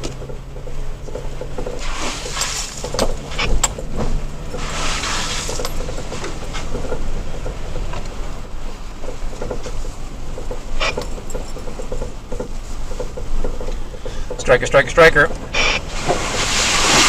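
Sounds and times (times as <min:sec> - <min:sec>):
low engine hum: 0:00.0 - 0:17.0
truck rattles and knocks: 0:00.0 - 0:17.0.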